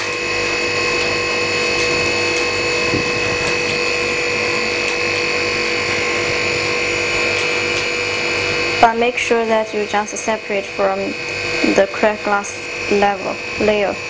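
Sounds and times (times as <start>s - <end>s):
freezer hum and whine: 0.0s - 14.0s.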